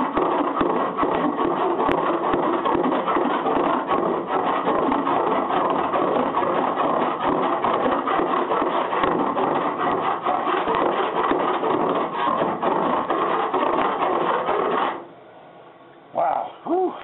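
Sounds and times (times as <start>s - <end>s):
hand file rasping on metal: 0.0s - 15.1s.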